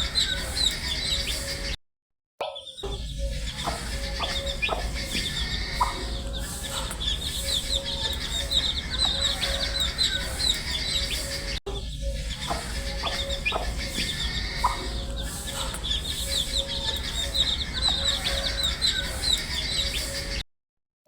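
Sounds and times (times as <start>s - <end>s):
baby chicks peeping: 0.0s - 1.8s, 2.7s - 20.4s.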